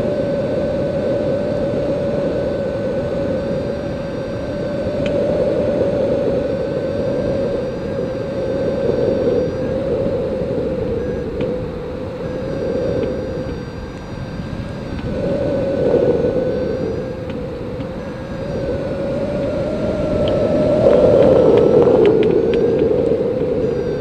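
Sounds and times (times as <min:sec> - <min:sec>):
faint aircraft engine drone: 0:00.0 - 0:24.0
wind rushing: 0:00.0 - 0:24.0.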